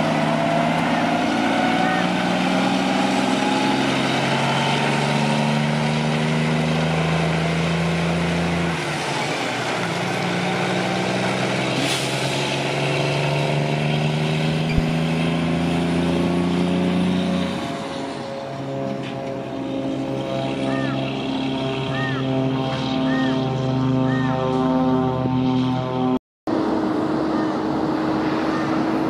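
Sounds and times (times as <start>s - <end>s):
truck diesel engine running: 0.0s - 24.8s
road noise: 0.0s - 29.0s.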